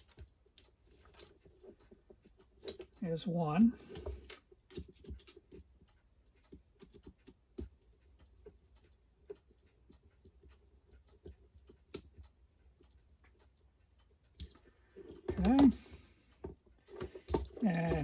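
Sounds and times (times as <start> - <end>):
small hand tools clicking and tapping: 0.0 - 3.0, 3.8 - 5.8, 6.4 - 13.4, 14.3 - 18.0.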